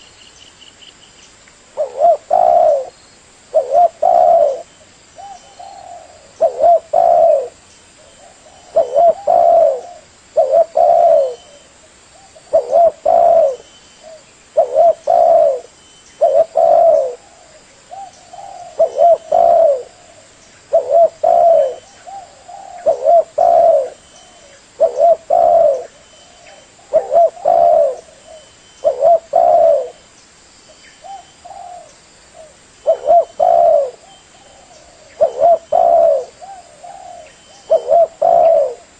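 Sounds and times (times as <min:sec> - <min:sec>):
dove cooing: 0:01.8 - 0:30.0, 0:31.0 - 0:38.9.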